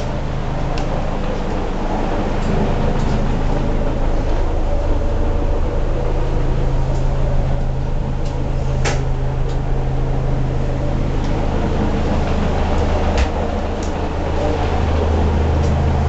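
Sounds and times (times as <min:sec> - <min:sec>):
boat engine low drone: 0:00.0 - 0:16.0.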